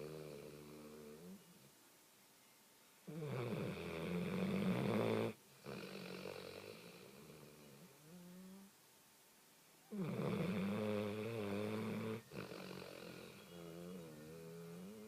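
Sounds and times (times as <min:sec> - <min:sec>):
dog snoring: 0:00.0 - 0:01.5, 0:03.1 - 0:08.7, 0:09.9 - 0:15.0.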